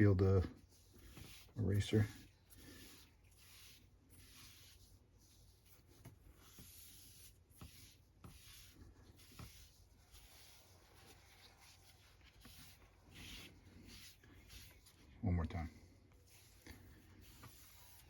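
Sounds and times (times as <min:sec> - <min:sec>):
cotton rubbing on paper: 0:00.0 - 0:15.2, 0:16.1 - 0:18.0.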